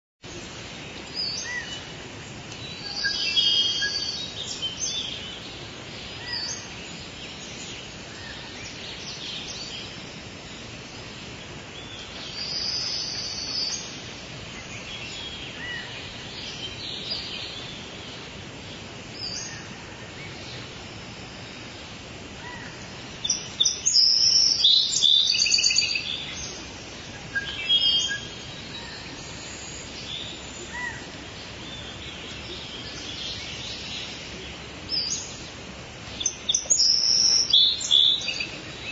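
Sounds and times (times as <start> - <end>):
small birds chirping: 0.2 - 38.9.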